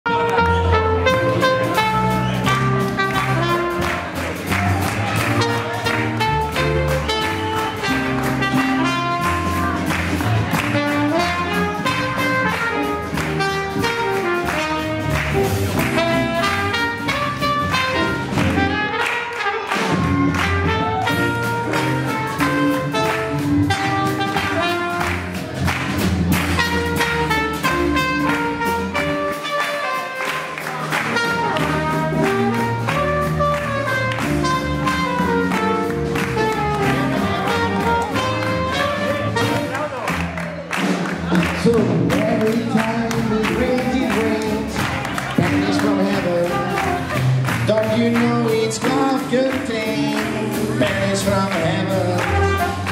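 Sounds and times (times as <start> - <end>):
swing jazz band playing: 0.0 - 52.9
trumpet lead: 0.0 - 52.9.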